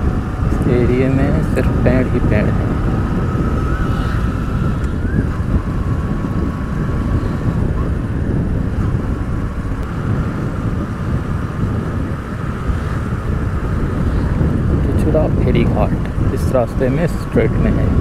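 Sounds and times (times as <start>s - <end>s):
motorcycle engine cruising: 0.0s - 18.0s
wind buffeting microphone: 0.0s - 18.0s.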